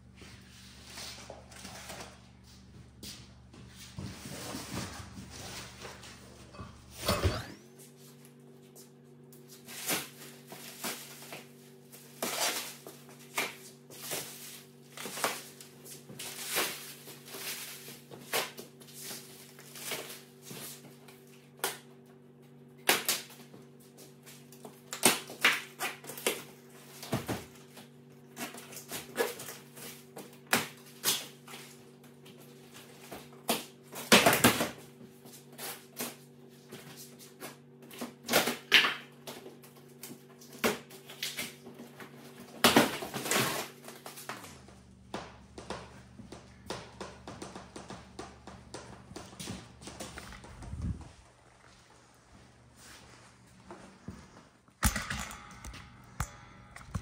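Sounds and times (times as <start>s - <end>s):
steady low hum: 0.0s - 25.1s, 25.9s - 57.0s.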